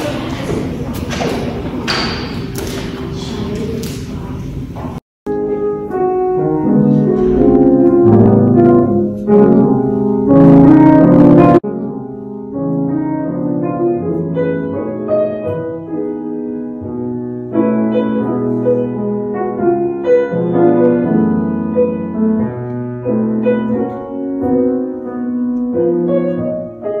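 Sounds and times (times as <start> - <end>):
piano music: 5.2 - 27.0.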